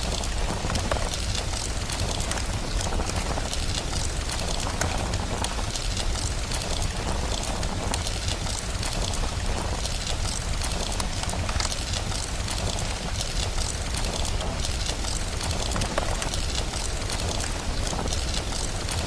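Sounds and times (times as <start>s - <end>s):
fire crackling: 0.0s - 19.0s
rain hissing: 0.0s - 19.0s.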